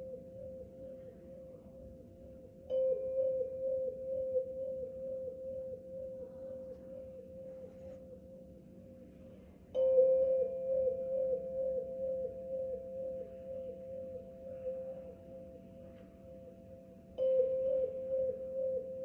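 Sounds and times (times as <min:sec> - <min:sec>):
singing tube ringing tone: 0:00.0 - 0:09.0, 0:09.7 - 0:19.0.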